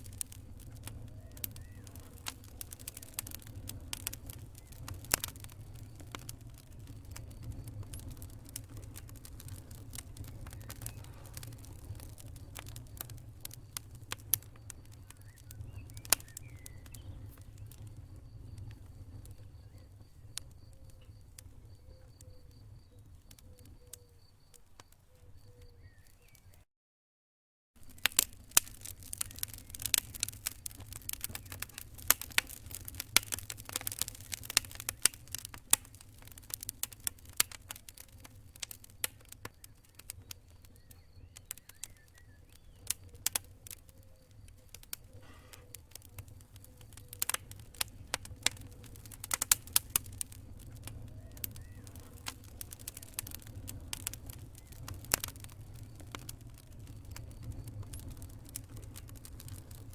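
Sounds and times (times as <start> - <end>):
fire crackling and popping: 0.0 - 26.6, 27.8 - 59.9
low rumble of flames: 0.0 - 26.6, 27.8 - 59.9.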